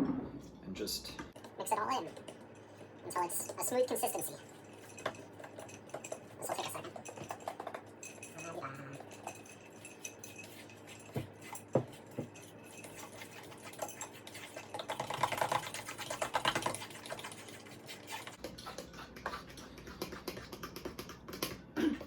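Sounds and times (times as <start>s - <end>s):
fork beating batter in bowl: 1.3s - 21.7s.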